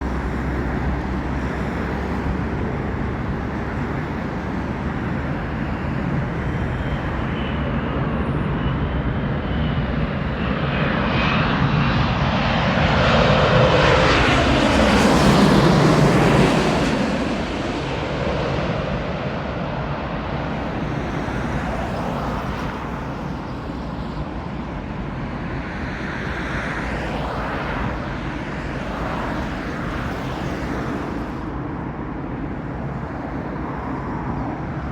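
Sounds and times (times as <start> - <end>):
airliner passing overhead: 0.0 - 34.9.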